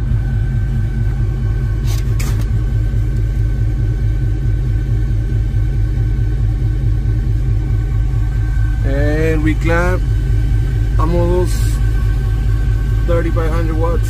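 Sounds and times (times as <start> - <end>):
pulsing low subwoofer rumble: 0.0 - 14.0.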